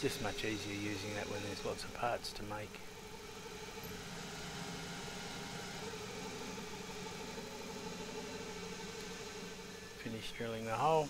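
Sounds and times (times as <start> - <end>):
lathe drilling steel whine: 0.0 - 11.0.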